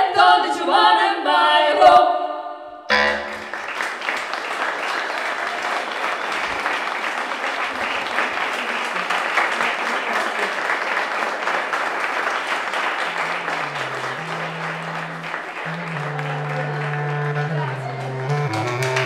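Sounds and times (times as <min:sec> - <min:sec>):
audience applauding: 0:03.2 - 0:19.0.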